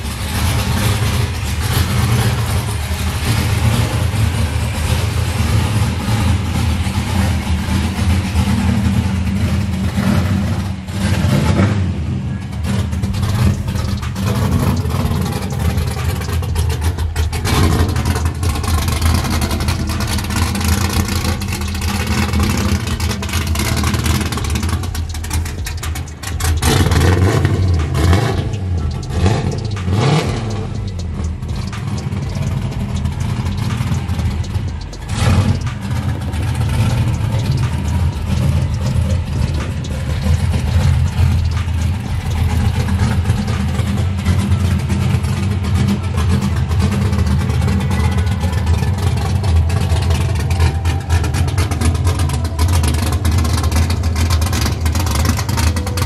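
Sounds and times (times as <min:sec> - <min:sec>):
car engine deep exhaust: 0:00.0 - 0:56.0.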